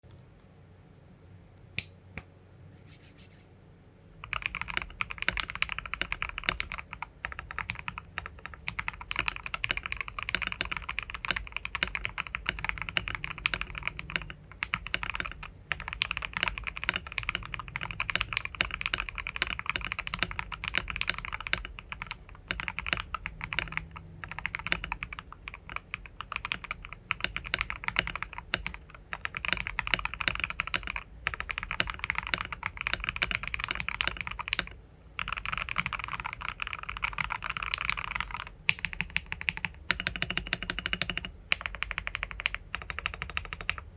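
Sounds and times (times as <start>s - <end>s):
mechanical keyboard typing: 4.2s - 43.9s.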